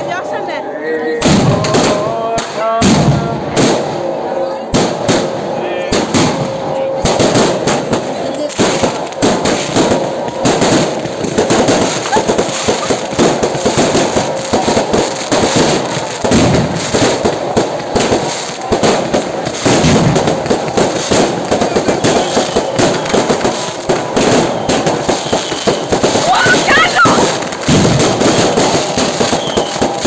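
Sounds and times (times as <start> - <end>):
firecrackers banging and crackling: 1.2 - 30.0.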